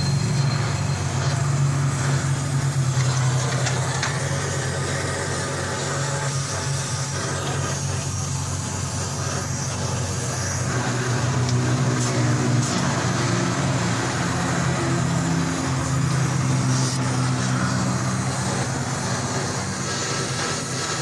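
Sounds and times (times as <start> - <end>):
gas welding torch hissing: 0.0 - 21.0.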